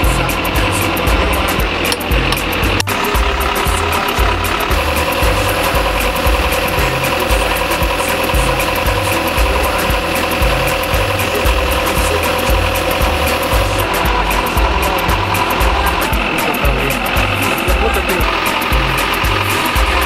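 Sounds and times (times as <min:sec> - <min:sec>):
drilling rig engine running: 0:00.0 - 0:20.0.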